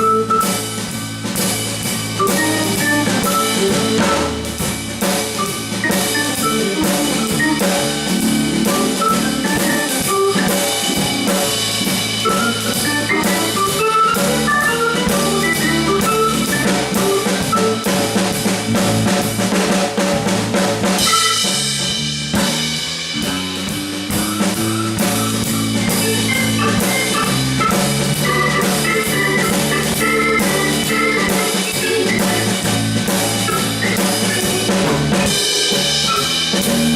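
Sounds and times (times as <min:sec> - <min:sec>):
bass guitar: 0:00.0 - 0:36.9
drum kit beat: 0:00.0 - 0:36.9
keyboards: 0:00.0 - 0:36.9.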